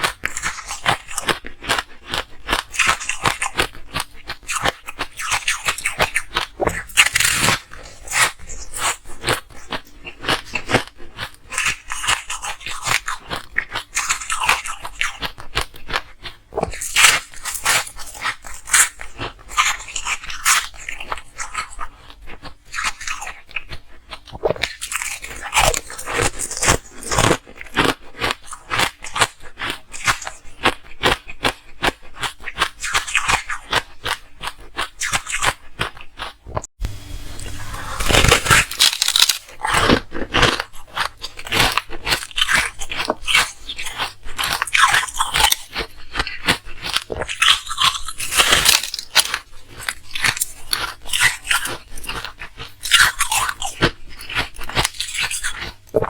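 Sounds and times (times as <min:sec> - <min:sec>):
ice being chewed: 0:00.0 - 0:36.7, 0:37.4 - 0:56.0.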